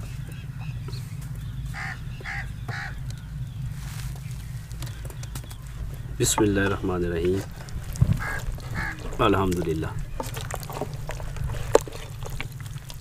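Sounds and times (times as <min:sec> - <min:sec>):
bird calling: 0:00.0 - 0:12.4
steady low hum: 0:00.0 - 0:13.0.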